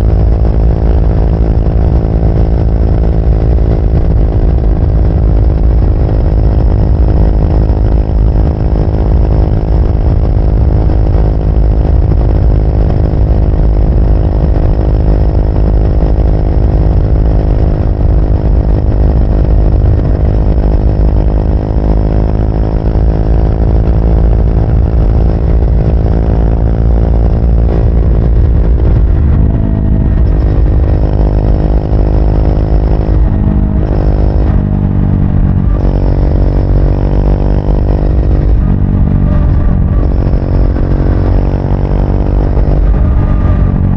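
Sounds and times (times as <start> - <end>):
motorcycle engine running: 0.0 - 43.9
wind and road rumble: 0.0 - 43.9.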